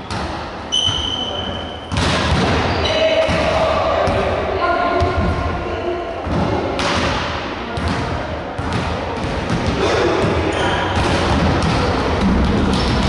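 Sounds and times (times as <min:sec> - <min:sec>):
din of players in echoing hall: 0:00.0 - 0:13.0.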